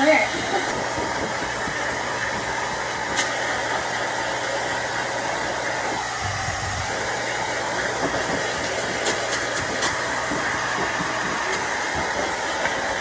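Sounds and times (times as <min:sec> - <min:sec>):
pet hair dryer blowing: 0:00.0 - 0:13.0.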